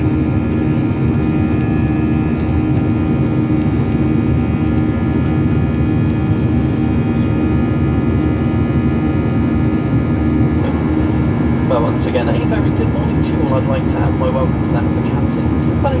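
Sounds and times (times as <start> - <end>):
engine and airflow drone: 0.0 - 16.0
steady hums: 0.0 - 16.0.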